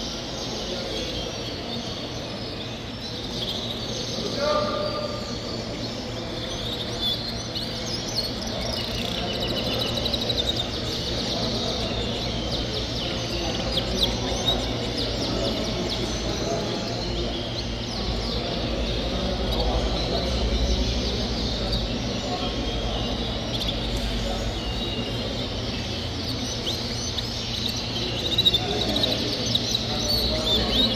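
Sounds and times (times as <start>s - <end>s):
canaries chirping and trilling: 0.0s - 30.9s
large hall background noise: 0.0s - 30.9s.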